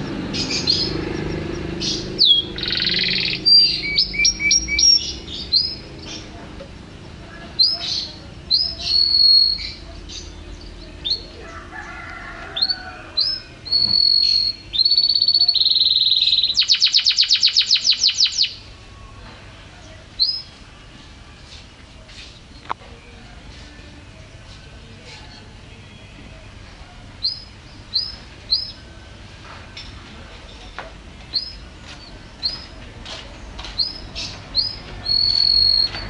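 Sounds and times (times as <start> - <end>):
canary singing: 0.0 - 32.8, 33.4 - 36.0.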